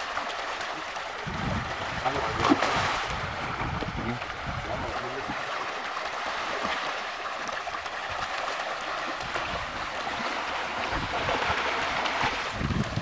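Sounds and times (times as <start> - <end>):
fish splashing at water surface: 0.0 - 13.0.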